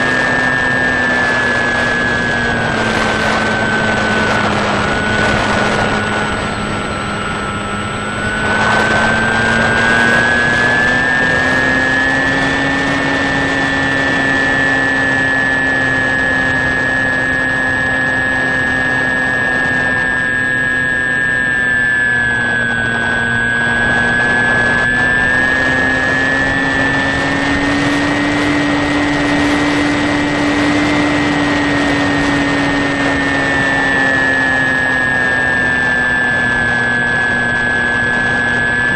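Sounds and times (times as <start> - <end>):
air noise: 0.0 - 38.9
electric motor whine: 0.0 - 38.9.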